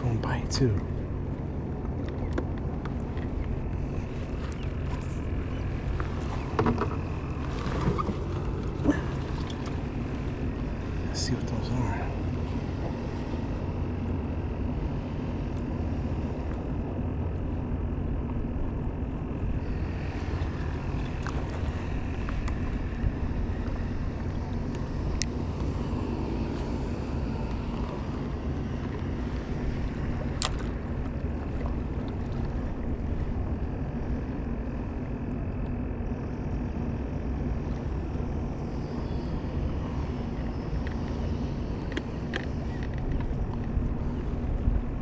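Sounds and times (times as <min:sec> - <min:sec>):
boat engine running: 0:00.0 - 0:45.0
wind noise: 0:00.0 - 0:45.0.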